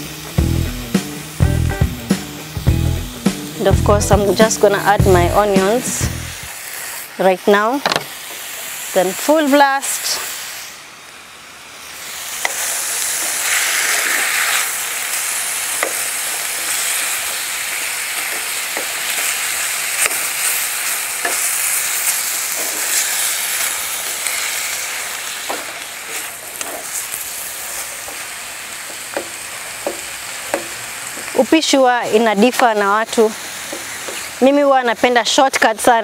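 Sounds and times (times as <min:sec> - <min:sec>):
meat and onions sizzling in a pan: 0:00.0 - 0:36.0.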